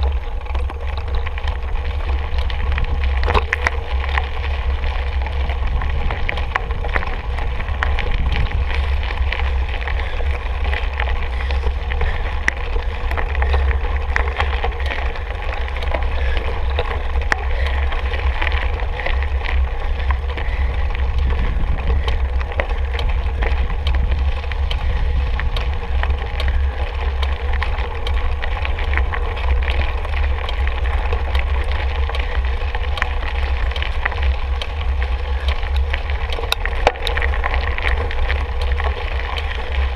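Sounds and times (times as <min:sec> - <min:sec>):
bike rattling clicks and knocks: 0:00.0 - 0:39.9
mountain bike rumbling on trail: 0:00.0 - 0:39.9.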